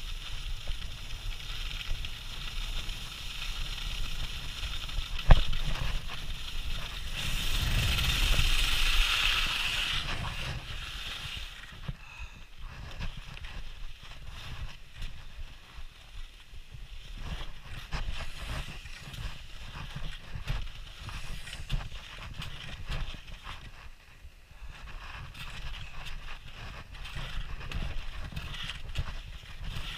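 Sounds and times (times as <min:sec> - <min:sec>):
skis scraping over snow: 0:00.0 - 0:29.9
wind rumble on microphone: 0:00.0 - 0:29.9.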